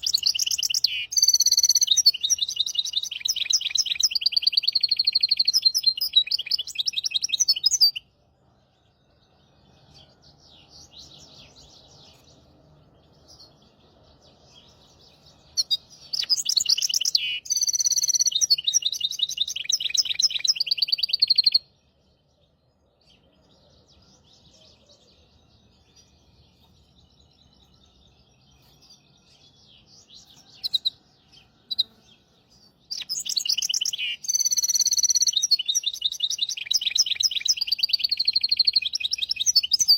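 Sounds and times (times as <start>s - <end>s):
bird singing trilling phrases: 0.0s - 39.9s
faint bird chirps: 0.0s - 39.9s.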